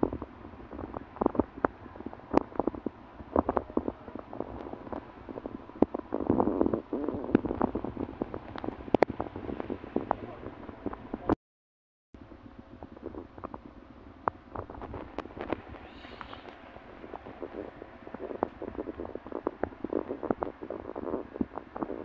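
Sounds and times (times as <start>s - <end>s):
wind rumble on microphone: 0.0s - 11.4s, 12.2s - 22.0s.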